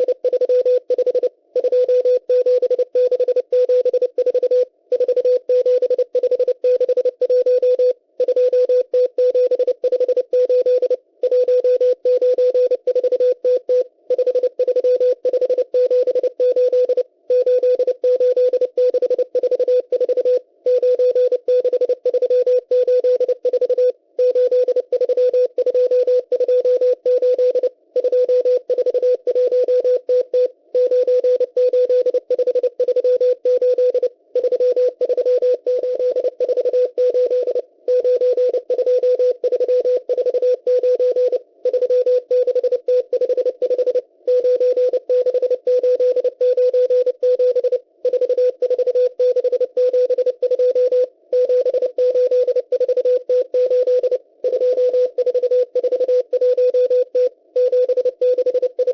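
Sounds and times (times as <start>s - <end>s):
morse code beeps: 0.0s - 58.9s.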